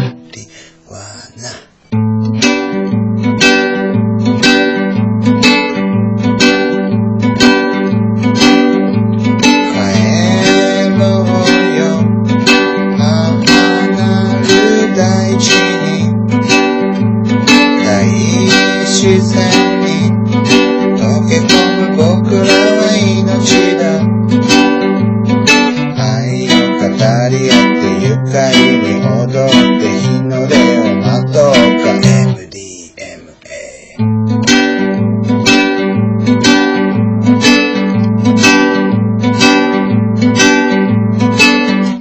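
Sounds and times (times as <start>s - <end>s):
plucked string music with beat: 0.0s - 33.0s, 34.0s - 42.0s.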